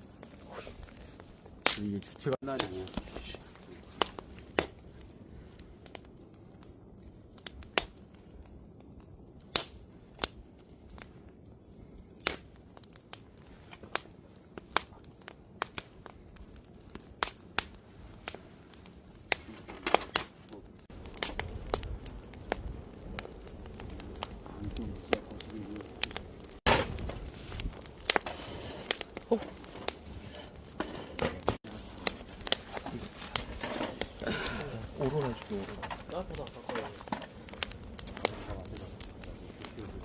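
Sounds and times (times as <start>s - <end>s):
wood campfire crackling and popping: 0.0s - 40.0s.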